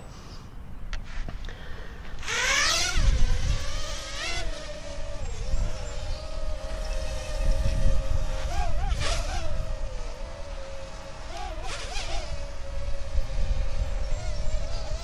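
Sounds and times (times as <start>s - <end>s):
drone propellers buzzing: 1.0s - 15.0s
wind rumbling on microphone: 2.1s - 15.0s.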